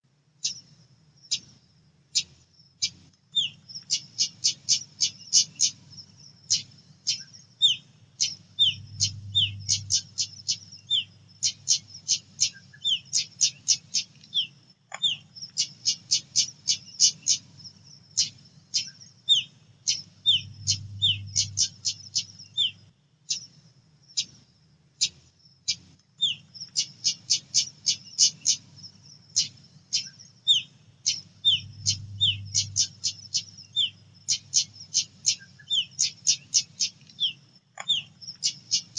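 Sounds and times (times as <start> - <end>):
faint low hum: 0.1 - 38.9.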